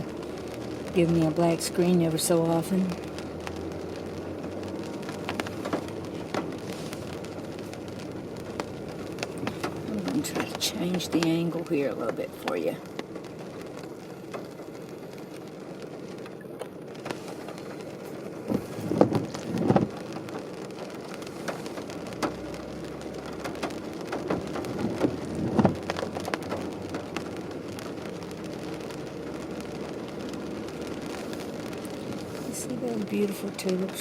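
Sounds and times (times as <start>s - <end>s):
rain on car windshield and roof: 0.0s - 34.0s.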